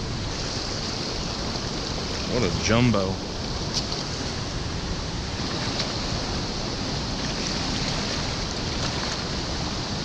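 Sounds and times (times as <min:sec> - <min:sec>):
fast-flowing river rushing: 0:00.0 - 0:10.0.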